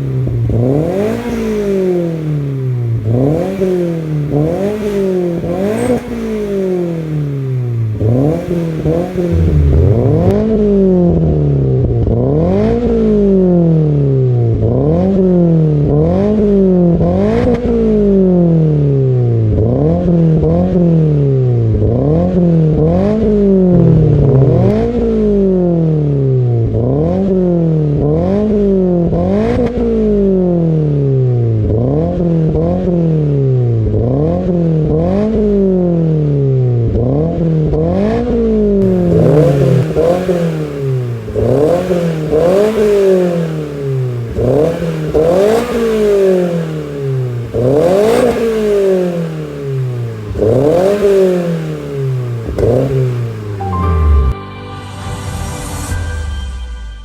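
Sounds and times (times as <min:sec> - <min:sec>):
car engine revving: 0:00.0 - 0:54.4.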